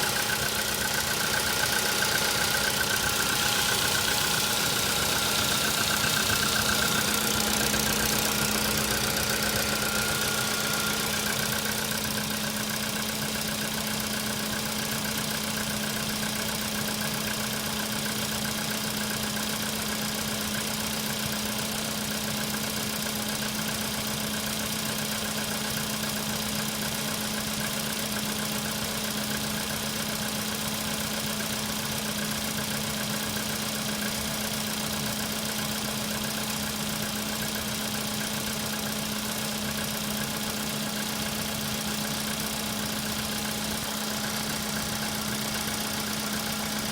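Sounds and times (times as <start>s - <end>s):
car engine idling with knocking: 0.0s - 46.9s.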